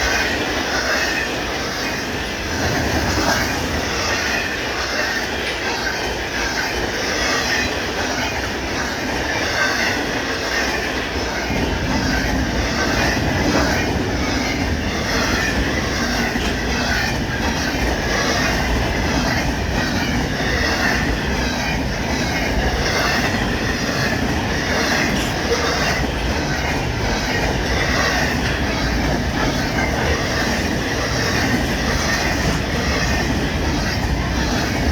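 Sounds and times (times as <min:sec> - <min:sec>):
freight train rolling past: 0:00.0 - 0:34.9
wheels clicking on rail: 0:00.0 - 0:34.9.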